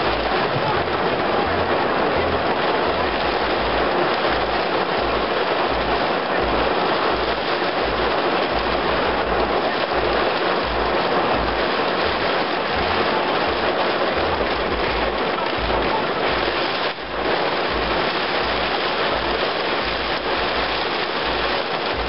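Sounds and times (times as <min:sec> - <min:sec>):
heavy rain in strong wind: 0:00.0 - 0:22.0
low pulsing throb: 0:00.0 - 0:22.0.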